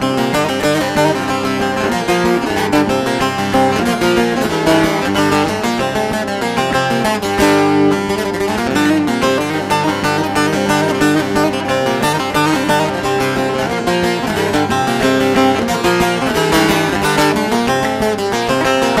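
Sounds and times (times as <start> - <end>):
saz strummed and plucked: 0.0 - 19.0.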